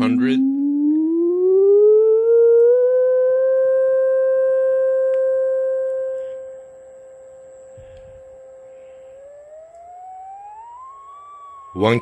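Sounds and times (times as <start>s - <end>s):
sine wave test tone: 0.0s - 12.0s.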